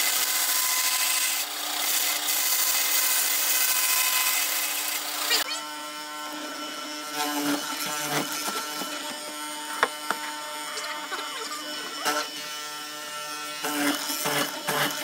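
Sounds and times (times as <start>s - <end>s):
mortiser motor humming: 0.0s - 15.0s.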